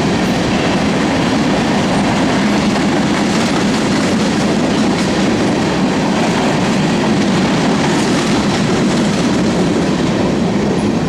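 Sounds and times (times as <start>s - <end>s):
steel train wheels on rails: 0.0s - 11.0s.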